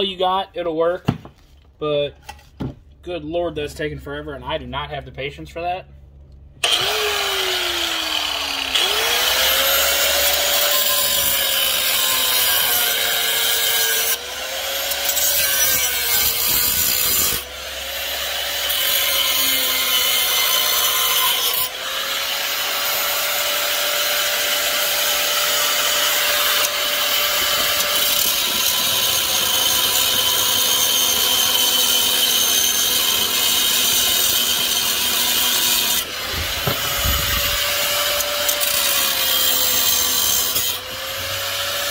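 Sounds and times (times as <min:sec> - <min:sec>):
angle grinder cutting metal: 0:06.6 - 0:41.9.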